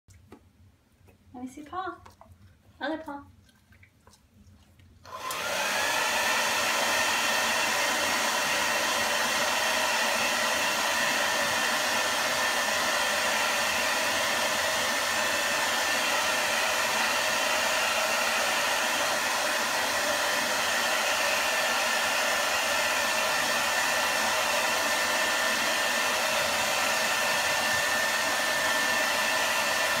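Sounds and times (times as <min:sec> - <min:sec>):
hair dryer running: 0:05.0 - 0:30.0.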